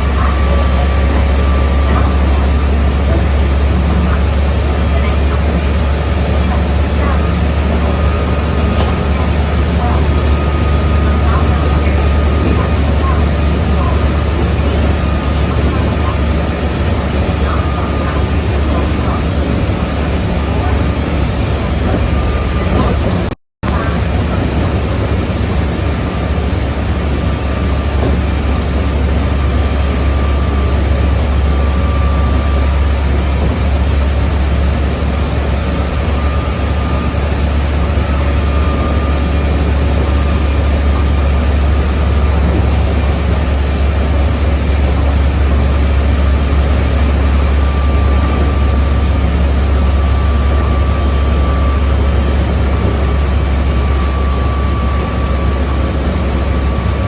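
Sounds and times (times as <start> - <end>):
high whine of traction motors: 0.0 - 57.0
train wheels rumbling on rail: 0.0 - 57.0.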